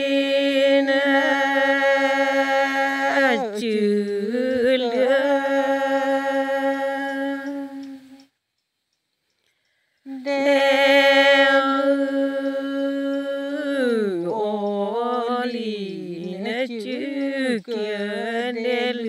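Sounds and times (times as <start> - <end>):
person chanting in long held notes: 0.0 - 8.2, 10.1 - 19.0.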